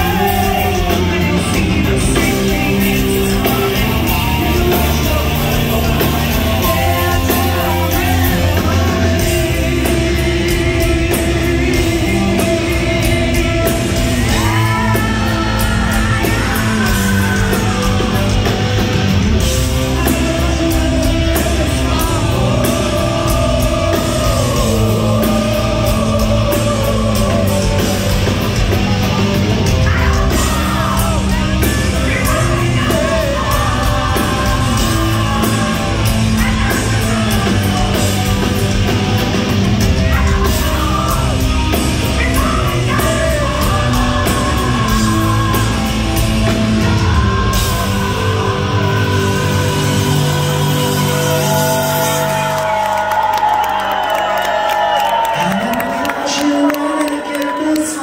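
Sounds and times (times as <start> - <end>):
lead singer: 0.0 - 58.0
live hard rock band: 0.0 - 58.0.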